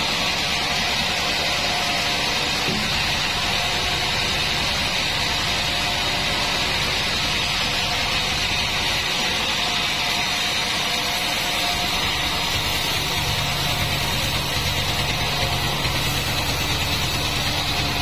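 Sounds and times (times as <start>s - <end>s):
band saw machine drone: 0.0s - 18.0s.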